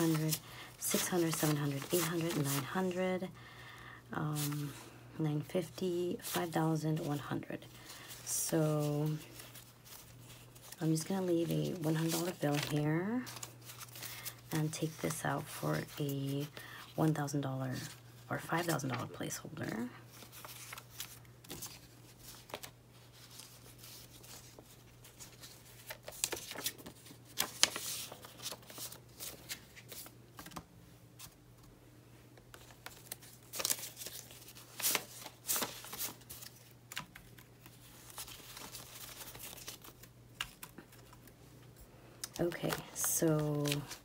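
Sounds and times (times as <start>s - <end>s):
banknotes rustling: 0.0s - 3.6s, 4.2s - 4.8s, 5.4s - 31.4s, 32.5s - 44.0s.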